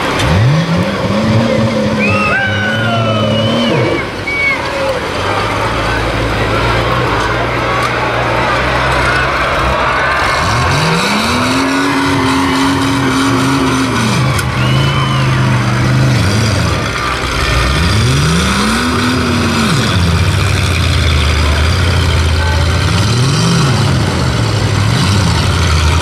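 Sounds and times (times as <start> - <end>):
engine revving: 0.0 - 4.3, 5.0 - 26.0
car engines idling: 0.0 - 26.0.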